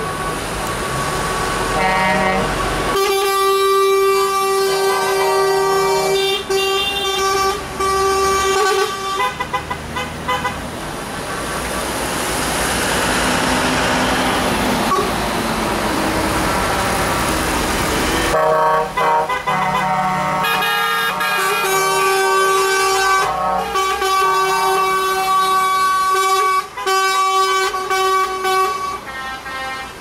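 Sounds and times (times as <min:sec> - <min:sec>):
truck horns blasting: 0:00.0 - 0:11.7, 0:12.8 - 0:15.4, 0:18.0 - 0:30.0.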